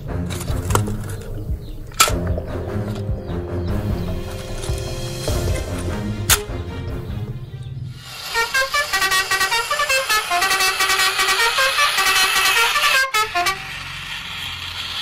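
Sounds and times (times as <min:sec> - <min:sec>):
buzzy electronic melody: 0:01.5 - 0:14.0.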